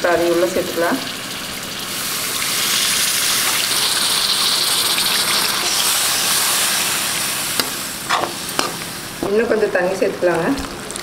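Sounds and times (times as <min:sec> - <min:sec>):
liquid sizzling in hot pan: 0:00.2 - 0:09.3.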